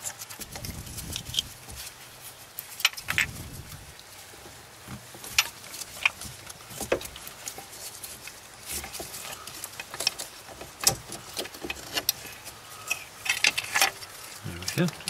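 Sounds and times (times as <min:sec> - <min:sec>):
gloved hands rustling: 0:00.0 - 0:15.0.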